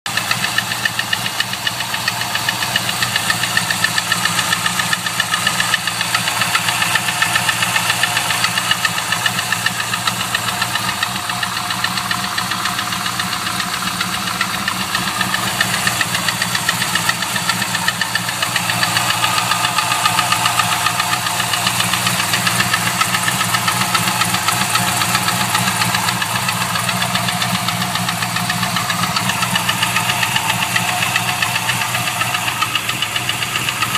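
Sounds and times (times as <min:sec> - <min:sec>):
car engine idling: 0:00.0 - 0:33.9
rapid engine knock: 0:00.0 - 0:33.9.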